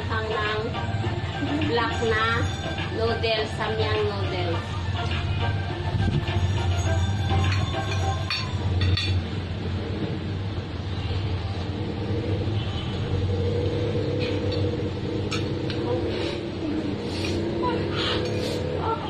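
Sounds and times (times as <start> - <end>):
low hum and rumble: 0.0 - 19.0.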